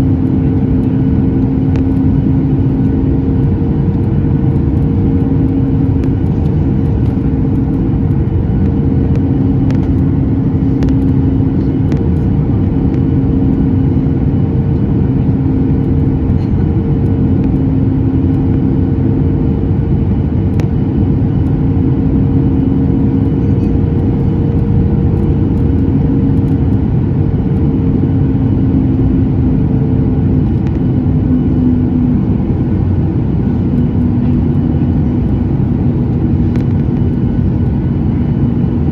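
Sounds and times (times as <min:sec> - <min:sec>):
airplane cabin airflow rush: 0:00.0 - 0:38.9
jet engine rumble: 0:00.0 - 0:38.9
low engine hum: 0:00.0 - 0:38.9.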